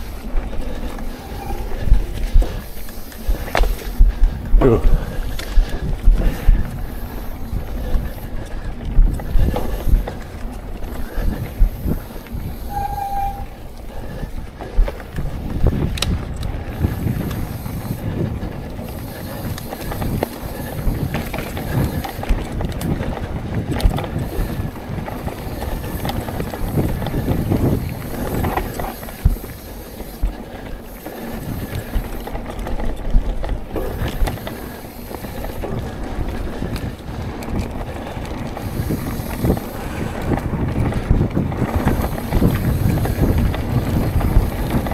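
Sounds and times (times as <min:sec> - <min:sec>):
bike rattling and knocking: 0:00.0 - 0:44.9
bike tyre noise: 0:00.0 - 0:44.9
wind buffeting microphone: 0:00.0 - 0:44.9.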